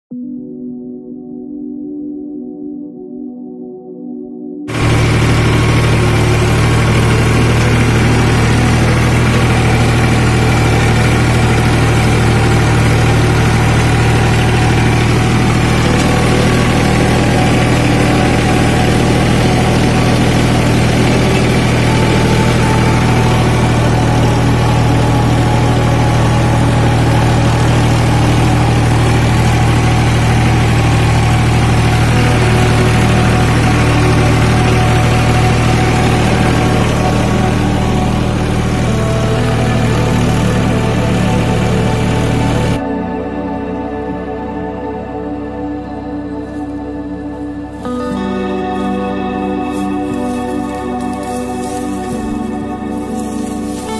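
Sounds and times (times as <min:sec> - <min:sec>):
tractor diesel engine droning: 0:04.7 - 0:53.9.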